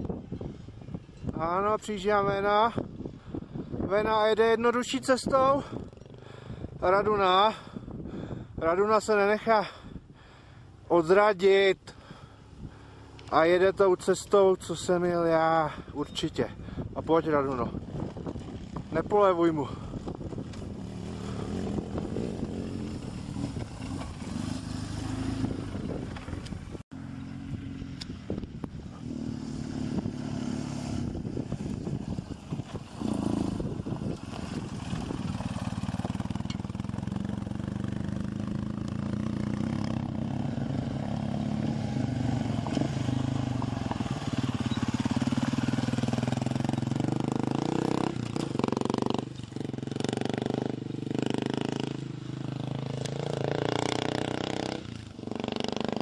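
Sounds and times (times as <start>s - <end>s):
motorcycle engines running: 5.5s - 8.5s, 11.9s - 14.8s, 15.7s - 56.0s.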